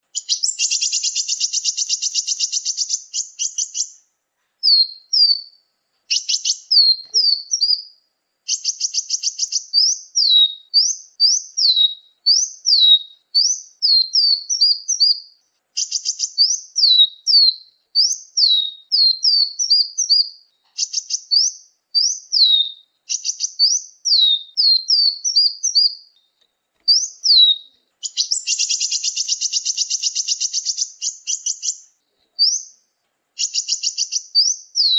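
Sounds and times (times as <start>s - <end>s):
buzzy bird trill: 0.0s - 34.9s
sharp downslurred bird chirps: 0.0s - 34.9s.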